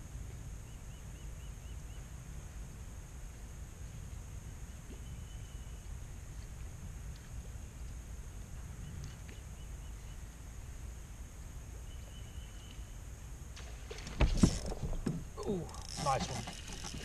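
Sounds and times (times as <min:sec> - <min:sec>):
wind rumble on microphone: 0:00.0 - 0:15.4.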